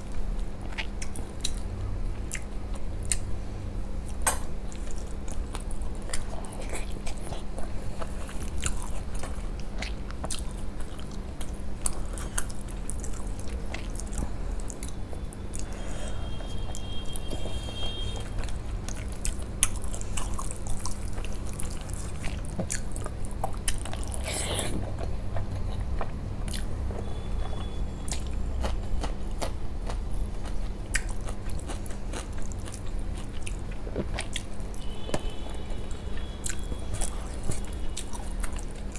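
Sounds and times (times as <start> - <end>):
chewing and wet mouth sounds: 0.0 - 3.3, 4.0 - 38.9.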